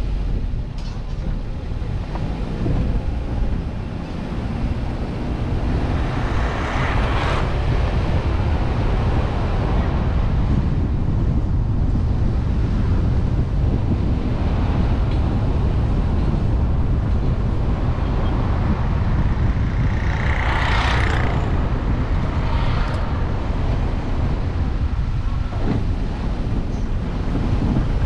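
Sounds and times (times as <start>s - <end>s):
car road rumble: 0.0s - 28.0s
wind rushing over microphone: 0.0s - 28.0s.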